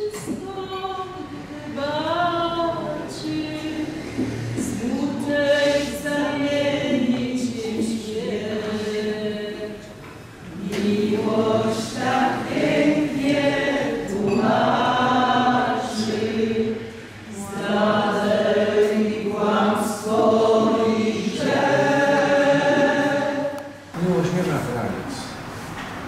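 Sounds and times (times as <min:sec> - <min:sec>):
group of people singing: 0:00.0 - 0:24.0.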